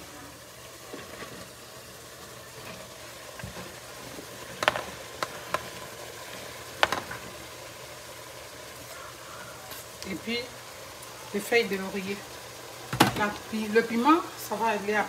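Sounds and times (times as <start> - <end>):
hot pot sizzling hiss: 0.0 - 15.0.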